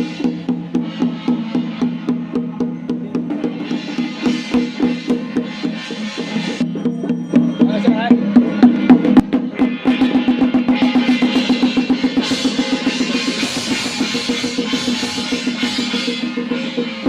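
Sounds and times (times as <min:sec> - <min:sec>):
drum beaten in fast strokes: 0:00.0 - 0:17.0
other percussion: 0:00.0 - 0:17.0.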